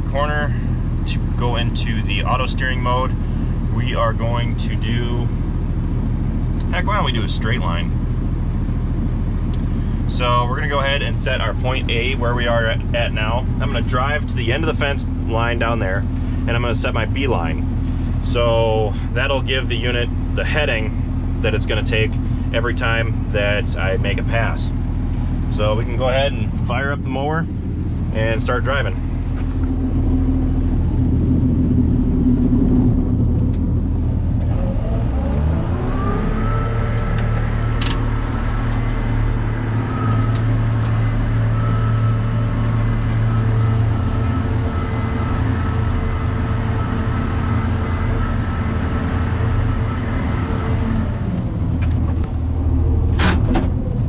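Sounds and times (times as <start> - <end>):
mower drive whine: 0.0 - 54.0
tractor diesel engine running: 0.0 - 54.0.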